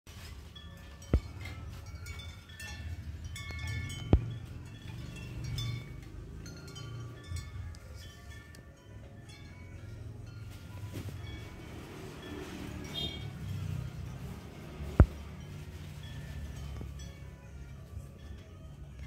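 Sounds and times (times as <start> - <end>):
chimes ringing: 0.1 - 19.0.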